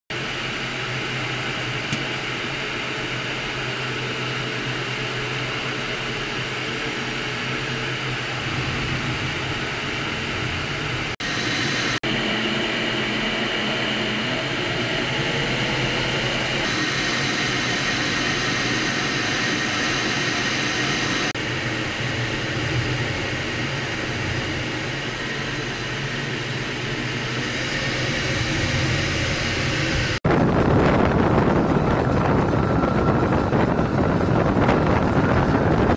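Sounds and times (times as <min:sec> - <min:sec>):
air rushing around cockpit: 0:00.1 - 0:35.9
jet engine whine: 0:00.1 - 0:35.9.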